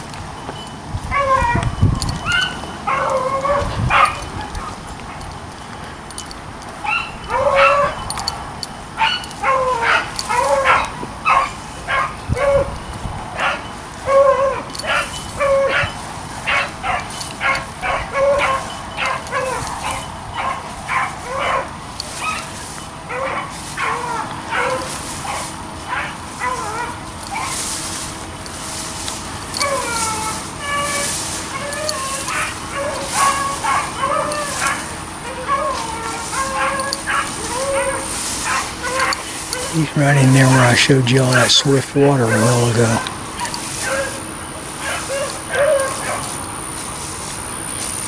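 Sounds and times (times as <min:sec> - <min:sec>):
hounds baying: 0:00.0 - 0:48.0.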